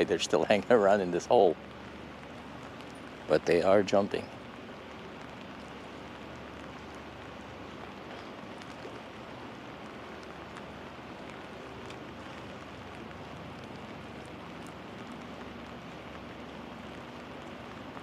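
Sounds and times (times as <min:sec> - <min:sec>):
raindrop ticks: 0:00.0 - 0:18.0
steady rain hiss: 0:00.0 - 0:18.0.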